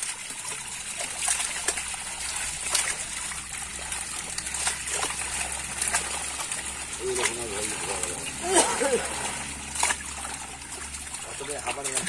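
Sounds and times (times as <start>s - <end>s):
fish thrashing in water: 0.0s - 12.0s
water trickling and splashing: 0.0s - 12.0s.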